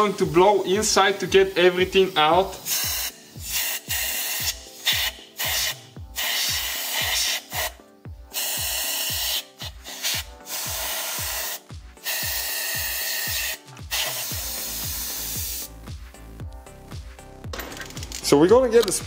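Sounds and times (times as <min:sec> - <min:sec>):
compressed air hissing: 0:00.0 - 0:15.8
background music with steady beat: 0:00.0 - 0:19.0.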